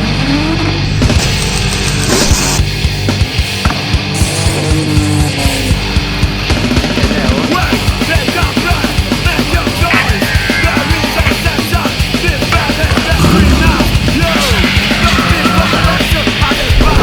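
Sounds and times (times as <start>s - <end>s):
fast punk rock music: 0.0s - 17.0s.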